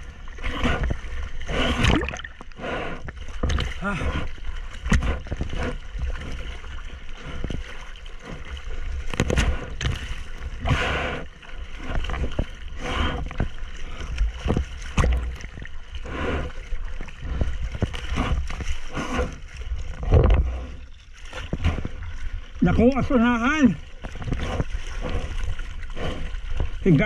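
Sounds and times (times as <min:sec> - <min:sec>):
water rushing over surfboard: 0:00.0 - 0:27.0.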